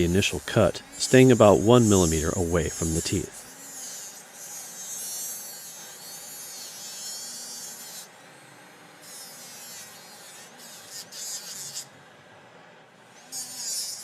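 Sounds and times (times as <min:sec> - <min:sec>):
dental handpiece motor buzz: 0:00.0 - 0:12.0, 0:13.0 - 0:14.0.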